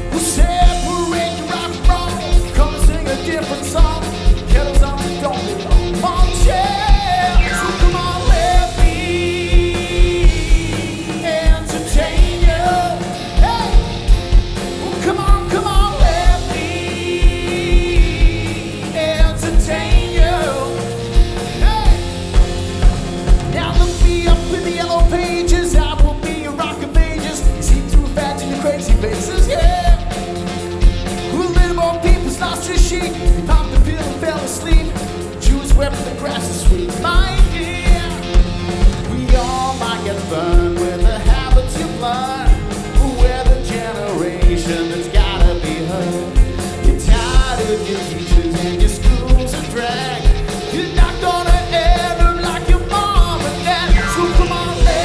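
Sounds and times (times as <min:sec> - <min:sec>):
heavy kick drum beat: 0:00.0 - 0:55.0
live rock band playing: 0:00.0 - 0:55.0
person singing: 0:00.0 - 0:55.0.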